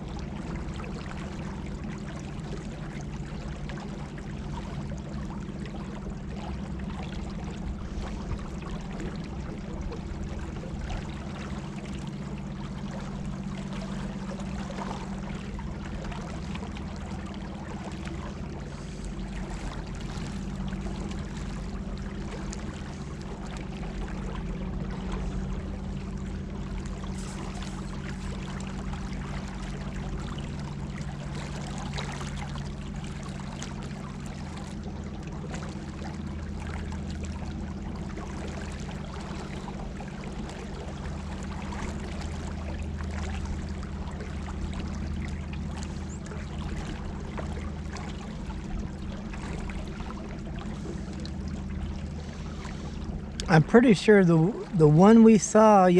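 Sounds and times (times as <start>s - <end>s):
water splashing along hull: 0.0s - 55.9s.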